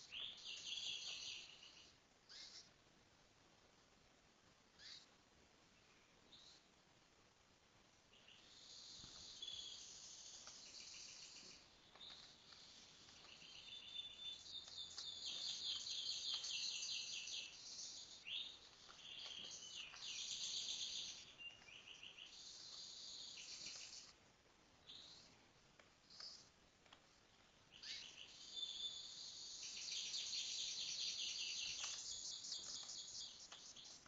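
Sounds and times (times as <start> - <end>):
songbirds trilling and chattering: 0.0 - 2.9, 4.6 - 6.8, 7.9 - 34.0.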